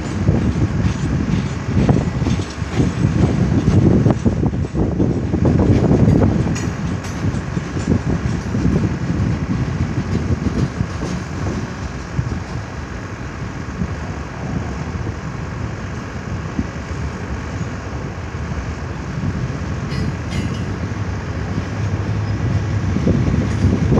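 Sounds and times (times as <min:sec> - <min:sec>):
train wheels rumbling on track: 0:00.0 - 0:23.9.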